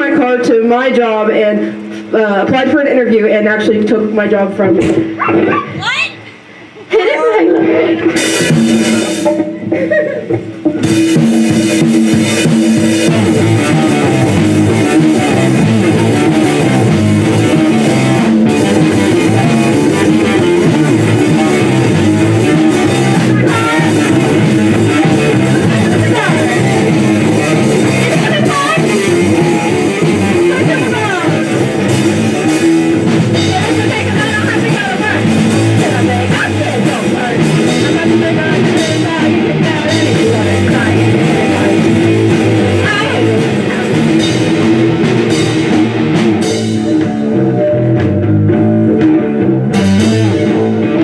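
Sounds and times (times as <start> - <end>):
bass guitar: 0.0 - 6.5, 7.4 - 51.0
electric guitar: 0.0 - 51.0
drum kit: 7.6 - 51.0.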